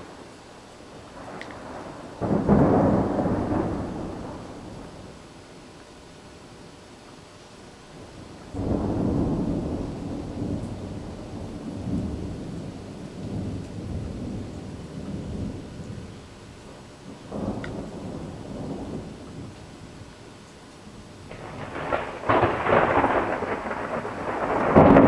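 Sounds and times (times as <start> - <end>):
thunder rumbling: 0.0 - 5.4, 8.1 - 20.3, 20.9 - 25.0
rain falling: 0.0 - 25.0.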